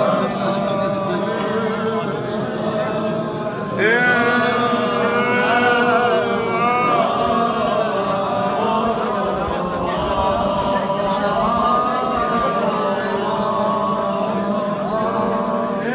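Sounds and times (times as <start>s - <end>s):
men chanting together: 0.0s - 15.9s.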